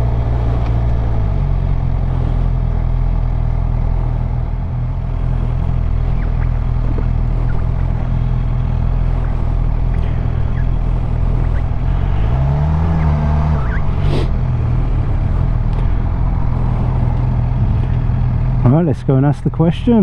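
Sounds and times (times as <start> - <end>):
motorcycle engine running at low revs: 0.0 - 20.0.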